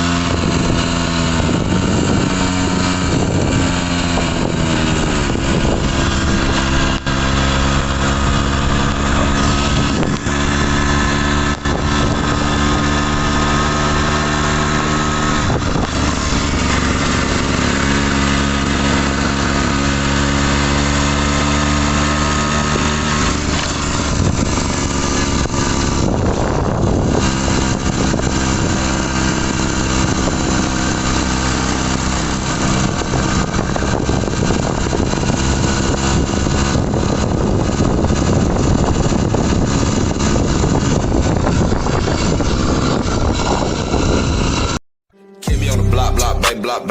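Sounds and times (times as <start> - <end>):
motorcycle engine running: 0.0 - 44.8.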